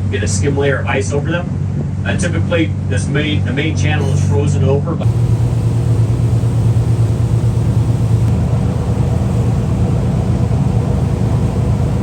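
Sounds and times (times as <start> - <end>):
jet boat engine running: 0.0 - 12.0.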